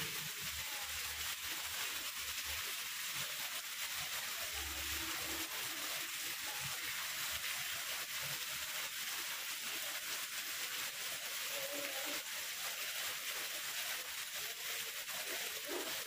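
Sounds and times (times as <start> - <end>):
rain on plants and gravel: 0.0 - 16.0.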